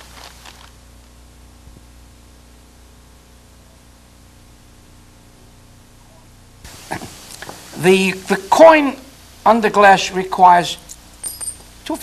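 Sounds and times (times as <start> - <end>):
background hiss: 0.0 - 12.0
low electrical hum: 0.0 - 12.0.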